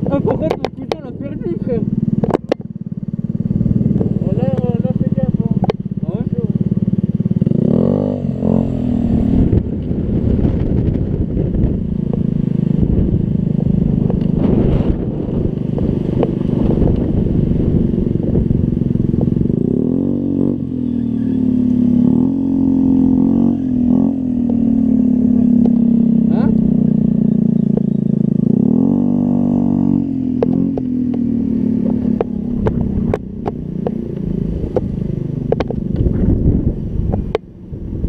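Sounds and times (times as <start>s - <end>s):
scooter engine revving: 0.0s - 38.0s.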